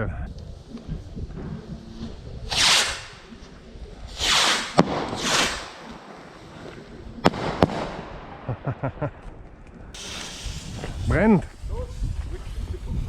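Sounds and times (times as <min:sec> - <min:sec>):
fireworks hissing and cracking: 0:00.4 - 0:09.0, 0:10.0 - 0:13.0.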